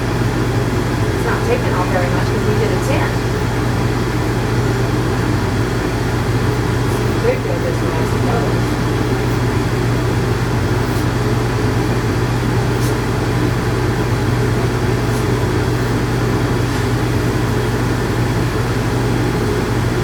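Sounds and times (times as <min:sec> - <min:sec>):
electric clippers humming: 0:00.0 - 0:20.0.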